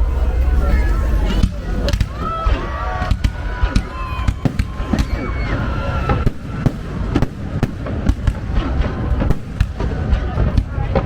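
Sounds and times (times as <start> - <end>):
continuous low rumble: 0.0 - 11.0
firework bangs and crackles: 0.0 - 11.0
firework shells bursting: 1.3 - 11.0.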